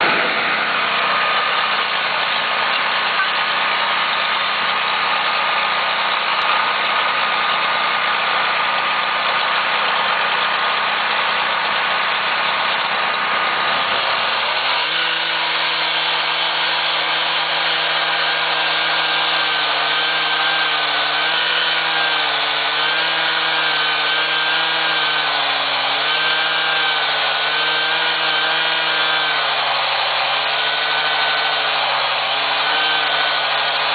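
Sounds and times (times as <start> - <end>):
railway track machinery: 0.0 - 33.9
small engine running: 0.0 - 33.9.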